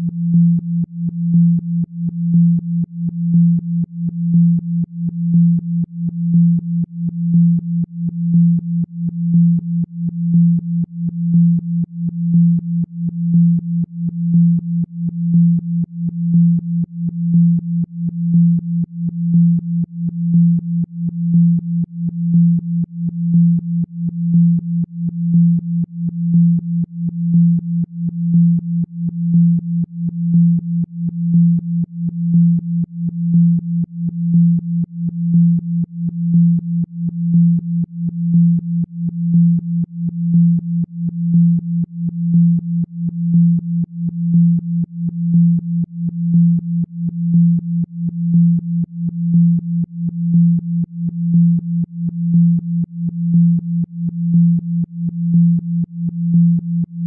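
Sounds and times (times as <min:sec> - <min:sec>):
low pulsing electronic tone: 0:00.0 - 0:57.0.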